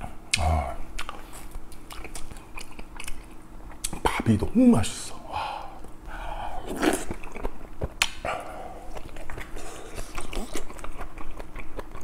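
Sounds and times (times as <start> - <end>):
person chewing with wet mouth noises: 0.3 - 4.1, 5.6 - 12.0.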